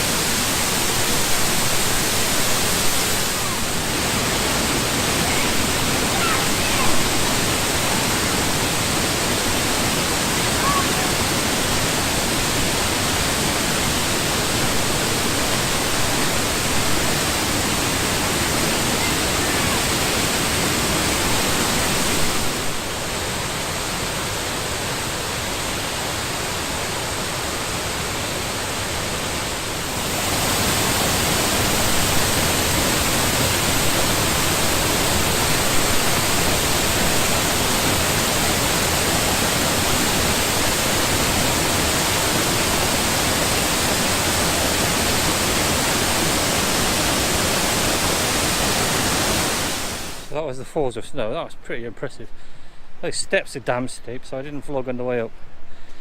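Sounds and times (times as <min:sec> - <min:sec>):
waterfall rushing: 0:00.0 - 0:50.6.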